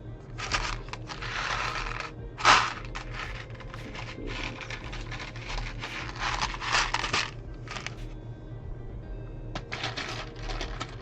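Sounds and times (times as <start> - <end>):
plastic bricks clicking and rustling: 0.4 - 8.0, 9.6 - 11.0.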